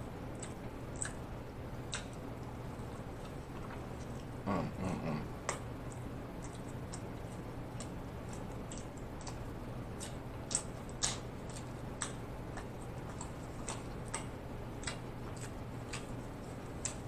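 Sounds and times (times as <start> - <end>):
low steady hum: 0.0 - 17.0
chewing with wet mouth clicks: 0.3 - 4.4, 5.4 - 17.0.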